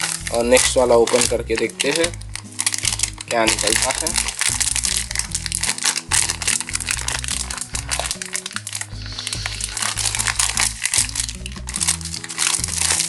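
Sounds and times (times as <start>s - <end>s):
background music: 0.0s - 13.0s
snack packet crinkling: 0.0s - 13.0s.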